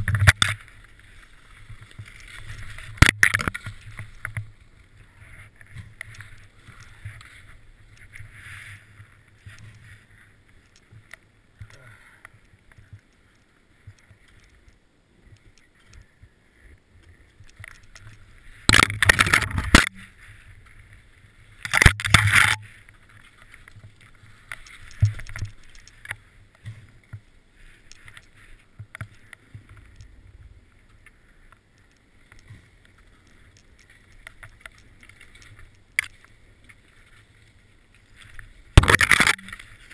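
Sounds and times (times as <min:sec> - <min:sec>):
skis sliding over snow: 0:00.0 - 0:39.9.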